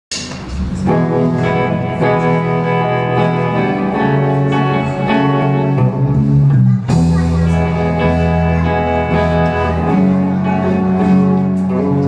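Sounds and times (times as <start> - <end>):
guitar: 0.1 - 12.0
keyboard chords: 0.4 - 12.0.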